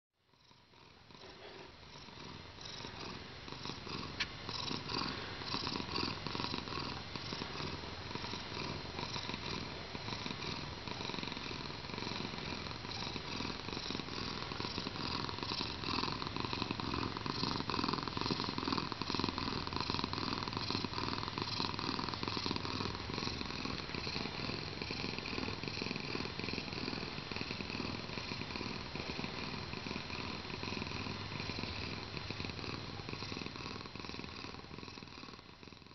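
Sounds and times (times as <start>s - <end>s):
cat purring: 0.2s - 35.9s.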